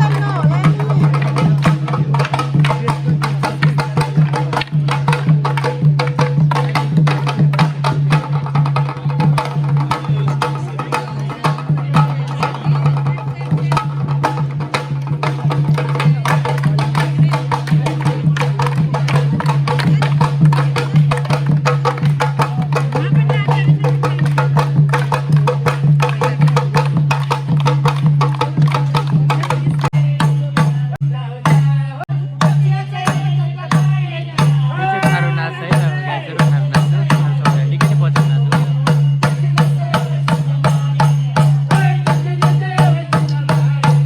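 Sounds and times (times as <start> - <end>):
fast hand-drum beats: 0.0 - 44.0.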